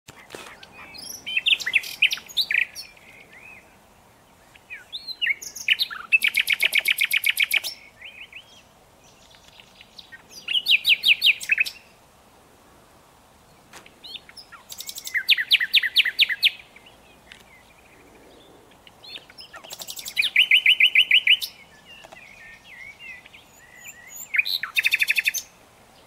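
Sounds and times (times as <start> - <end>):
nightingale singing: 0.1 - 12.0, 13.5 - 26.0.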